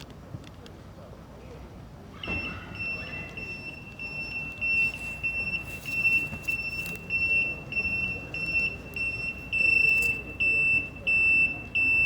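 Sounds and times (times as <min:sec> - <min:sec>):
high-pitched electronic warning beeper: 0:02.3 - 0:12.0.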